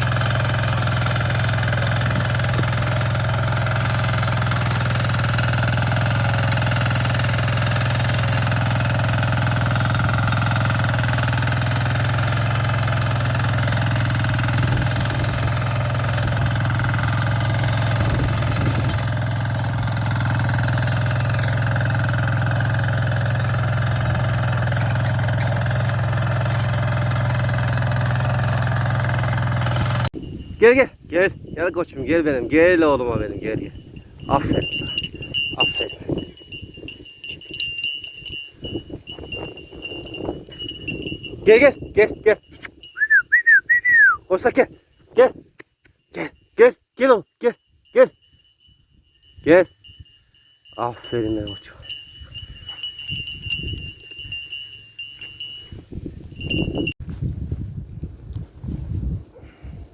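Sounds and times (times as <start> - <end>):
tiller engine running steadily: 0.0 - 44.2, 49.4 - 57.0.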